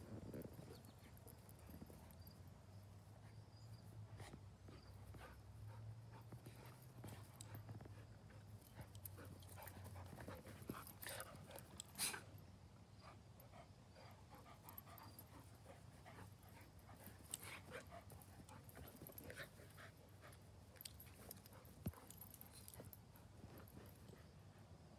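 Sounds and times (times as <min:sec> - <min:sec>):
dogs panting: 0:04.1 - 0:12.4, 0:13.0 - 0:24.9.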